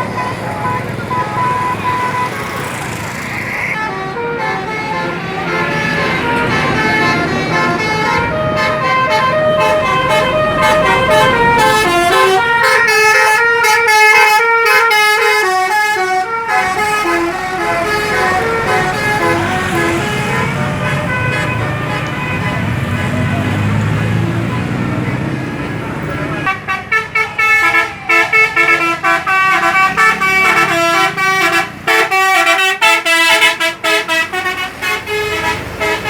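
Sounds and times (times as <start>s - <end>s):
bus musical horn tune: 3.8s - 24.8s, 26.4s - 36.0s.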